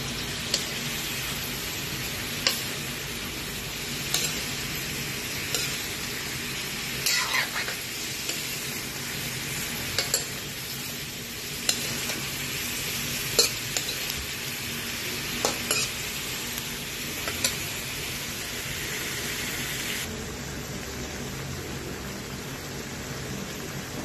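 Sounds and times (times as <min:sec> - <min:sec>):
seafood sizzling in a pan: 0:00.0 - 0:24.0.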